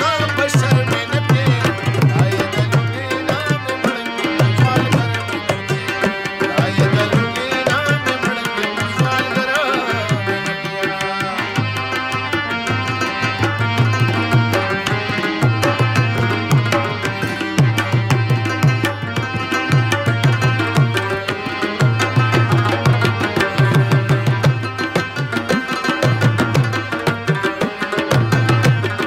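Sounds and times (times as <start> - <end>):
harmonium melody: 0.0 - 29.0.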